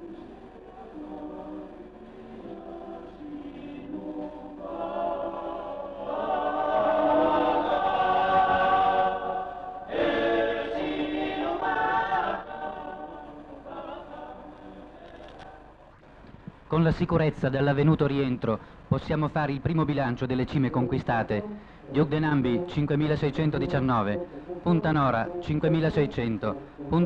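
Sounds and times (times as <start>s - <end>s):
choir singing long held notes: 0.0s - 15.8s, 20.8s - 27.0s.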